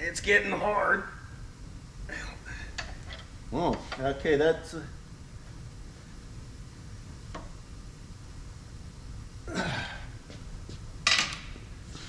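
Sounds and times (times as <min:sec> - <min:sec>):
low workshop rumble: 0:00.0 - 0:12.0.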